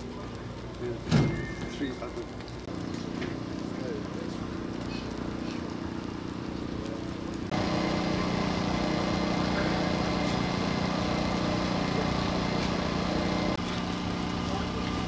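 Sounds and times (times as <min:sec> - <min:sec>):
engine running: 0:01.8 - 0:15.0.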